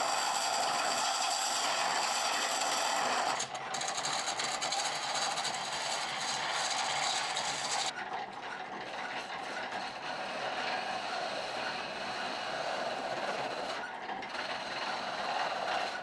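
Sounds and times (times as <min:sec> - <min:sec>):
lathe tool rasping on wood: 0:00.0 - 0:07.9, 0:08.8 - 0:16.0.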